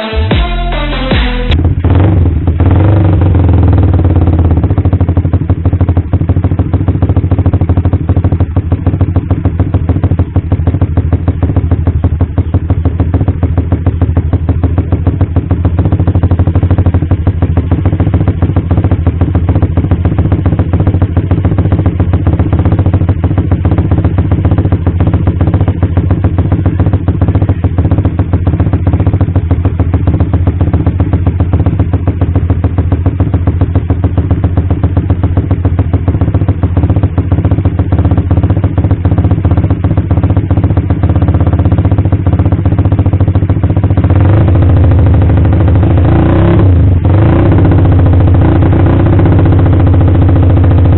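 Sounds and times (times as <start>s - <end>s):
motorcycle engine idling: 1.5s - 50.9s.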